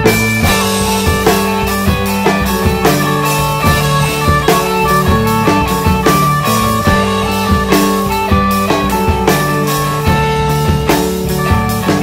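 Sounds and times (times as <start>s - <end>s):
rock music with guitar and drums: 0.0s - 12.0s.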